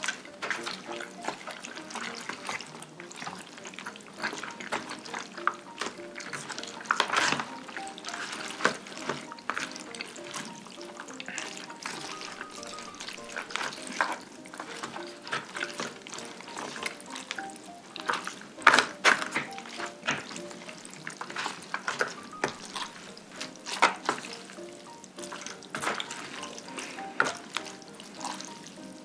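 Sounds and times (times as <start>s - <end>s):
light background music: 0.0s - 29.0s
wet sticky noodle stirring: 0.0s - 29.0s.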